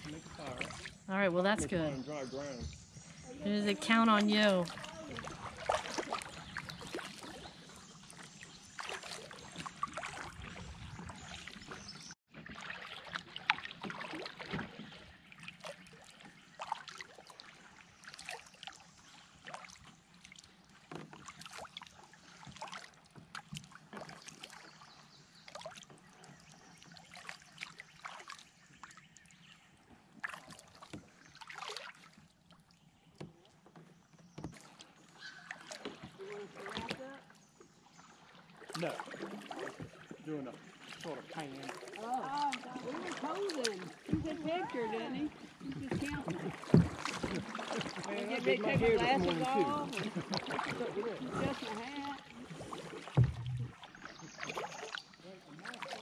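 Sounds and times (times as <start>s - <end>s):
paddle splashes: 0.0s - 56.0s
water lapping at hull: 0.0s - 56.0s.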